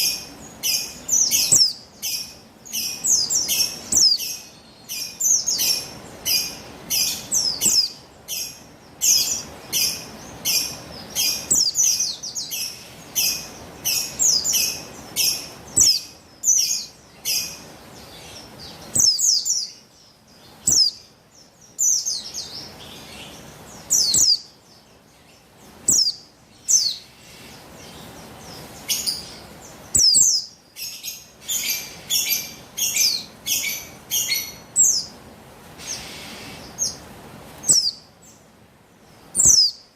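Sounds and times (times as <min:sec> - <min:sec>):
bird high downward chirps: 0:00.0 - 0:17.7, 0:18.3 - 0:25.1, 0:25.8 - 0:27.6, 0:28.8 - 0:35.2, 0:37.6 - 0:38.2, 0:39.3 - 0:39.9.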